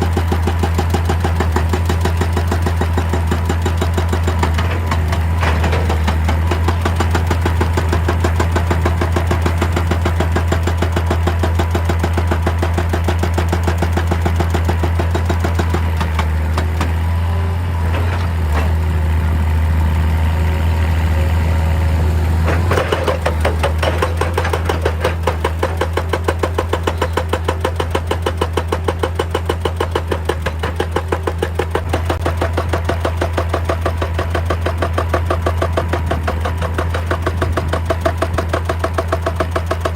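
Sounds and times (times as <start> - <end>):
excavator diesel engine pulsing: 0.0 - 39.9.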